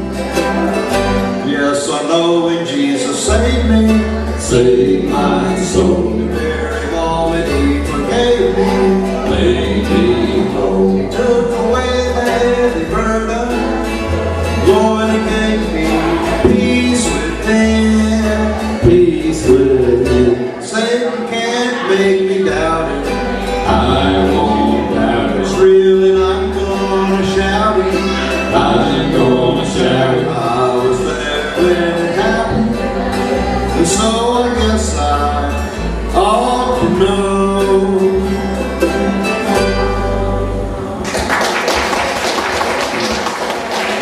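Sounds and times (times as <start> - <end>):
strummed and plucked strings: 0.0 - 44.0
walking bass: 0.0 - 44.0
people singing: 1.4 - 38.4.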